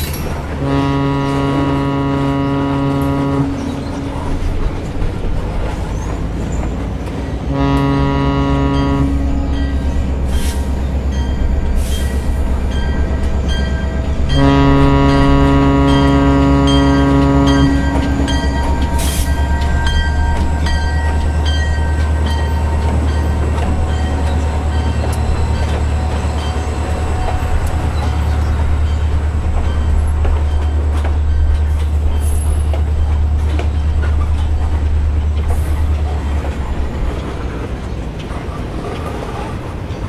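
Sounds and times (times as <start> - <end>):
rail clicks: 0.0 - 40.0
train engine and wheel rumble: 0.0 - 40.0
train horn chord: 0.5 - 37.0.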